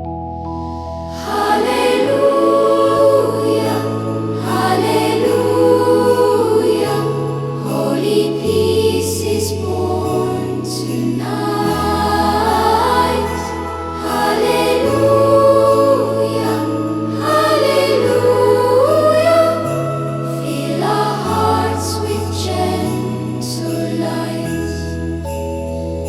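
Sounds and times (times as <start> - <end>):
choir singing: 1.1 - 25.0.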